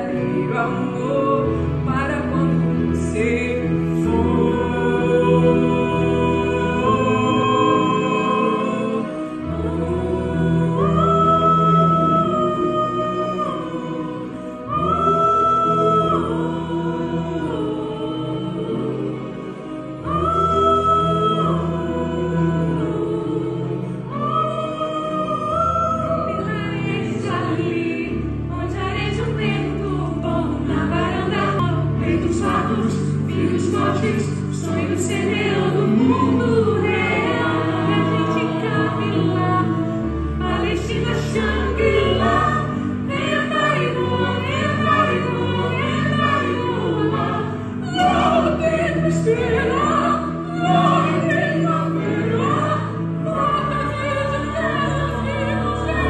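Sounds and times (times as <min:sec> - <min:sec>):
operatic choir singing: 0:00.0 - 0:56.0.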